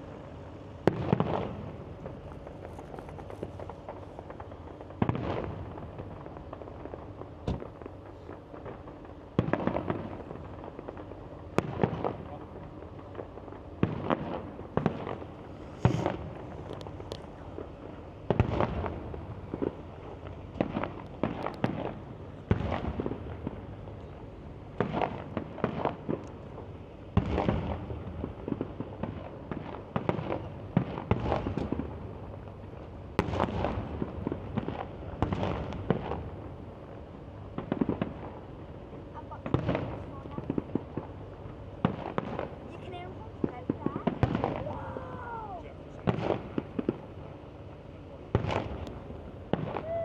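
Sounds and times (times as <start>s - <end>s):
fireworks bursting: 0.0s - 47.4s, 48.2s - 50.0s
steady background noise: 0.0s - 50.0s.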